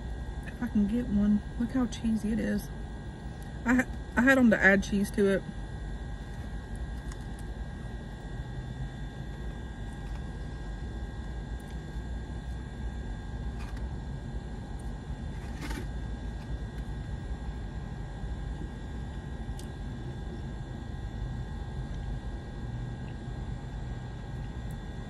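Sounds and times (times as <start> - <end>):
car cabin rumble and hum: 0.0 - 25.0
faint steady whine: 0.0 - 25.0.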